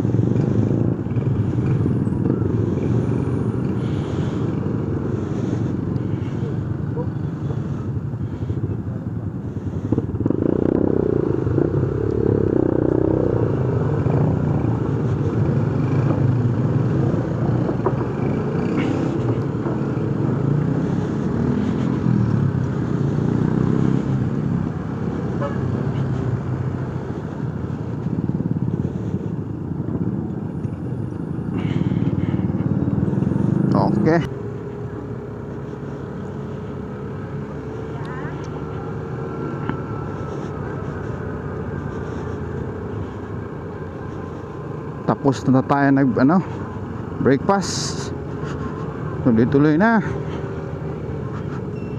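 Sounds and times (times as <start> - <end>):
motorcycle engine running: 0.0 - 51.9
other motorcycles nearby: 0.0 - 51.9.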